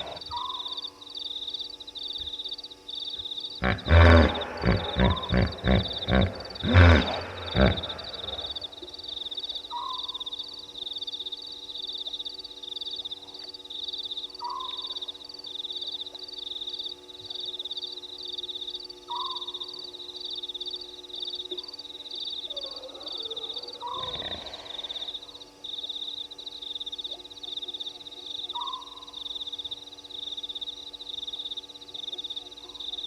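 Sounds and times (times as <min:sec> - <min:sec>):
faint steady low hum: 0:00.0 - 0:33.0.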